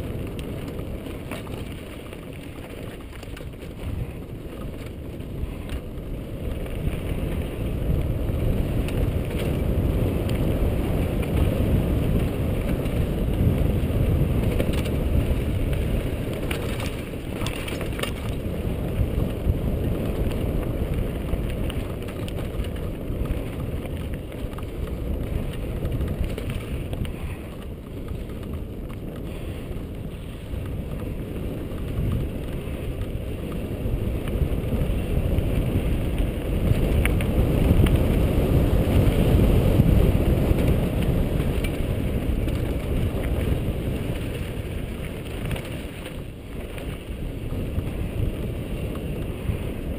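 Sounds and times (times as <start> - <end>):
light bike rattles: 0.0 - 49.9
wind and tyre rumble: 0.0 - 49.9.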